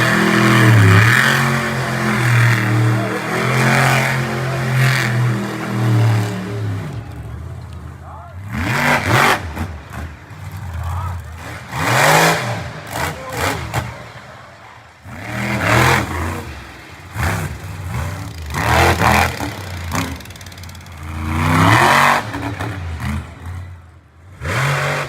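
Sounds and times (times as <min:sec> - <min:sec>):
truck engine revving hard: 0:00.0 - 0:07.5, 0:08.4 - 0:25.0.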